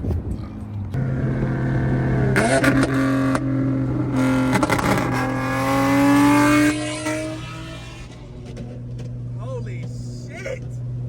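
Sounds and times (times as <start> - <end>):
car engine revving: 0.9 - 11.0.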